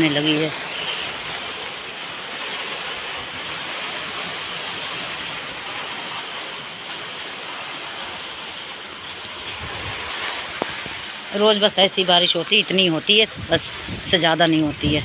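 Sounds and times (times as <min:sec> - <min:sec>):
rain on concrete roof: 0:00.0 - 0:15.0.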